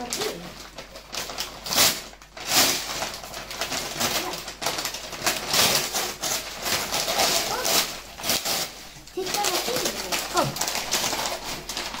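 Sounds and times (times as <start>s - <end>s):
wrapping paper crackling and tearing: 0.0s - 12.0s.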